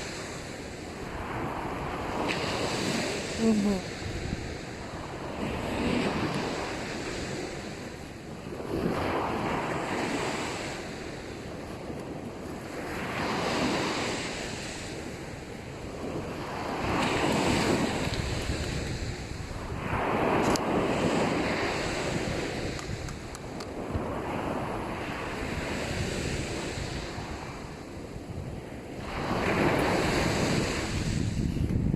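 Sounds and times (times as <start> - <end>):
waves breaking on beach: 0.0 - 31.9
wind buffeting microphone: 0.0 - 31.9.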